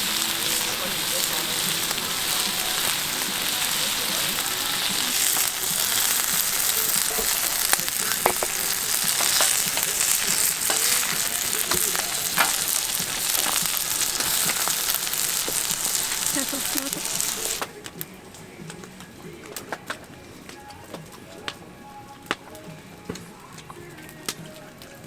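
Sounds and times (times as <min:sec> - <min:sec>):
food sizzling: 0:00.0 - 0:25.0
sharp frying pops: 0:00.0 - 0:25.0.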